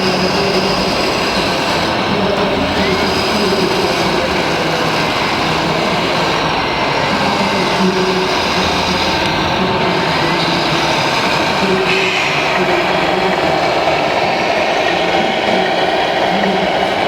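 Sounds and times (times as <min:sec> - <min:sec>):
model construction machines running: 0:00.0 - 0:17.0.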